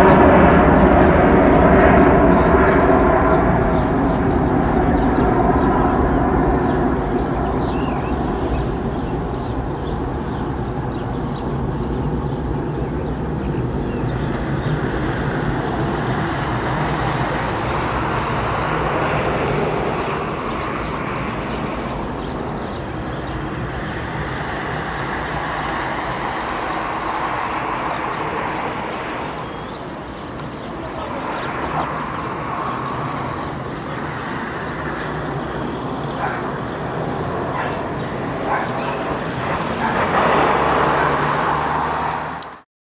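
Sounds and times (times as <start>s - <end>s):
jet engines roaring: 0.0s - 42.6s.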